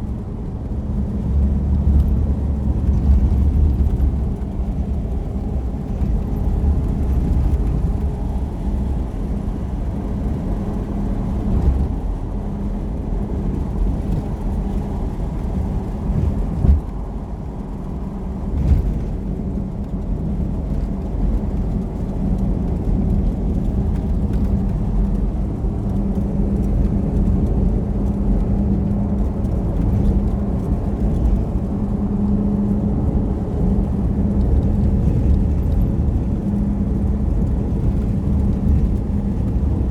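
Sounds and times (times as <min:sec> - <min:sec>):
vehicle cabin engine and road rumble: 0:00.0 - 0:39.9.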